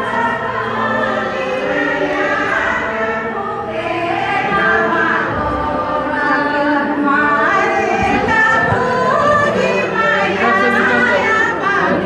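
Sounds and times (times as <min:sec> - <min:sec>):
group singing a hymn: 0:00.0 - 0:12.0.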